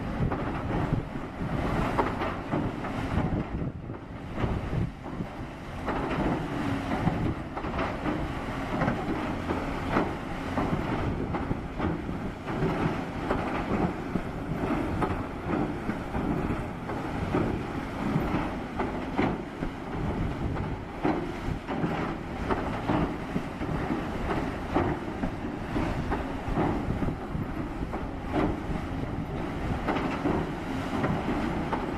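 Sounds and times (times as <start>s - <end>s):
heavy machinery rumbling: 0.0s - 31.9s
machinery clanking and knocking: 0.0s - 31.9s.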